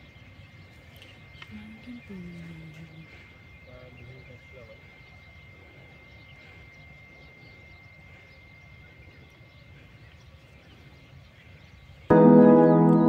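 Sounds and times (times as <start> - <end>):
faint chirps: 0.0 - 13.0.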